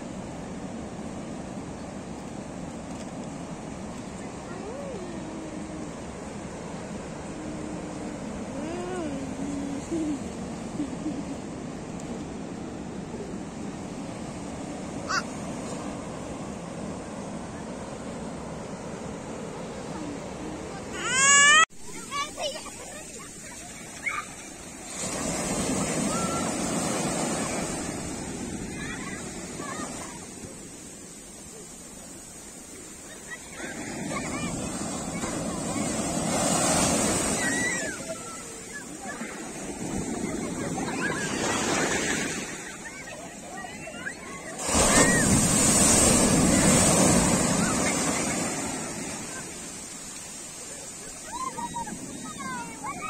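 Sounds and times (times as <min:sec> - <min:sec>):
small waves washing on sand: 0:00.0 - 0:53.0.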